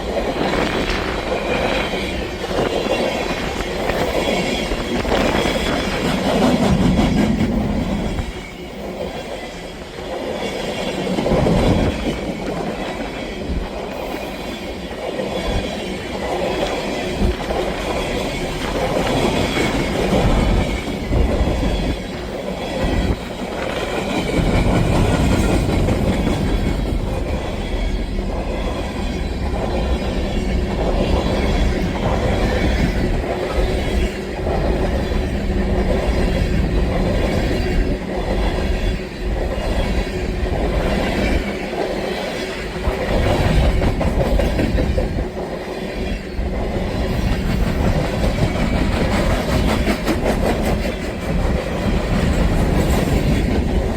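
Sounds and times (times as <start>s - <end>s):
freight train clattering over rails: 0.0s - 53.9s.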